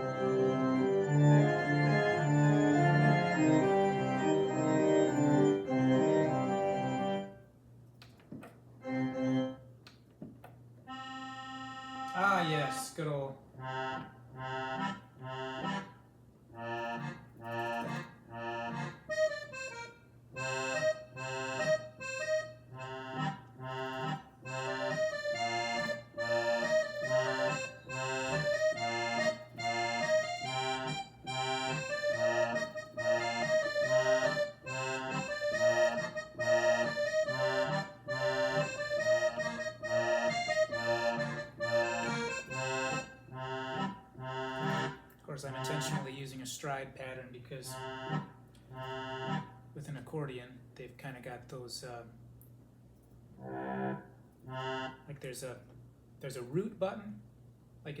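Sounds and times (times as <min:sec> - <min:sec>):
digital piano accordion voice: 0:00.0 - 0:07.5, 0:08.8 - 0:09.7, 0:10.9 - 0:46.8, 0:47.5 - 0:49.9, 0:53.4 - 0:55.5.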